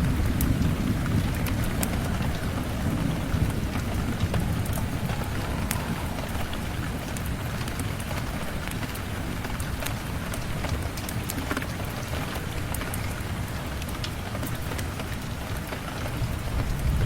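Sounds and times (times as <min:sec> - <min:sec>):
steady rain falling: 0:00.0 - 0:17.0
thunder rumbling: 0:00.0 - 0:17.0.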